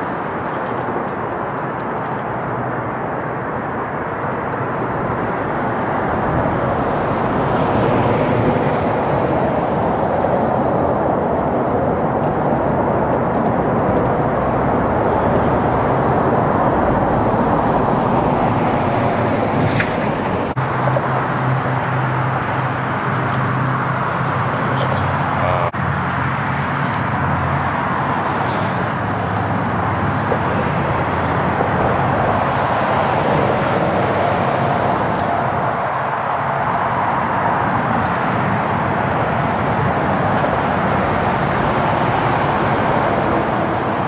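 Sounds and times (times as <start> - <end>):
freeway traffic rush: 0.0 - 44.0.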